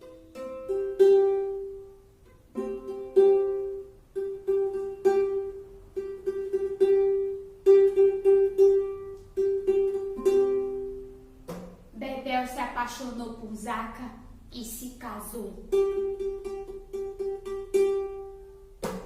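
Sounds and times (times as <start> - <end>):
plucked string instrument melody: 0.0 - 12.0, 15.3 - 19.0.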